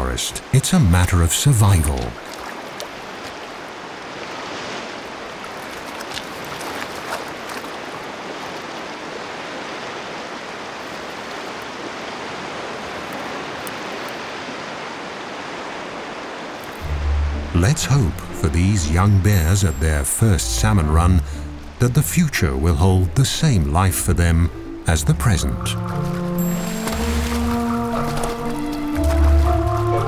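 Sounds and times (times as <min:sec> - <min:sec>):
water rushing over stones: 0:00.0 - 0:30.0.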